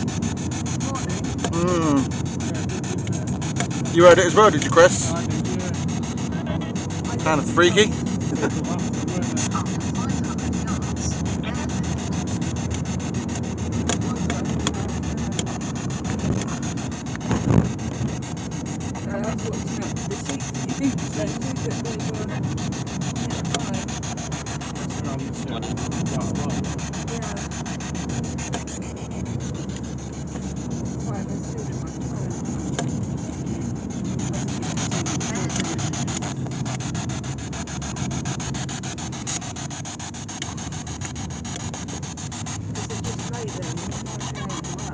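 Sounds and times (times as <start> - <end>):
camera rubbing on clothing: 0.0 - 44.9
car interior rumble and hiss: 0.0 - 44.9
radio static crackle: 0.0 - 44.9.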